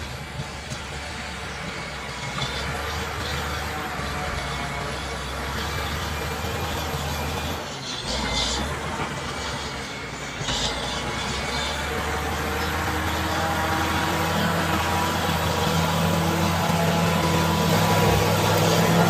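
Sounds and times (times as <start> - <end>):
bulldozer diesel engine under load: 0.0 - 19.0.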